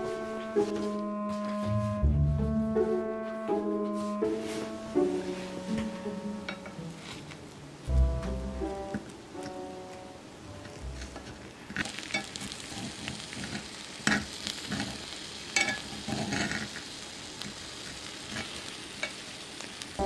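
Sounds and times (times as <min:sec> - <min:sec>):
faint pan sizzle: 0:03.9 - 0:20.0.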